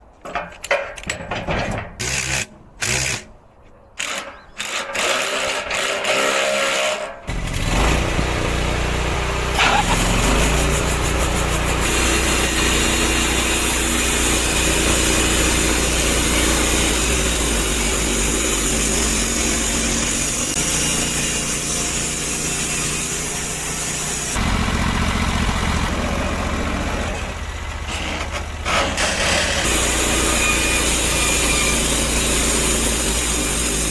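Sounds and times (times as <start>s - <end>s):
saw blade cutting log: 2.0s - 3.3s, 4.0s - 24.4s, 26.8s - 33.9s
sawmill engine under load: 4.0s - 33.9s.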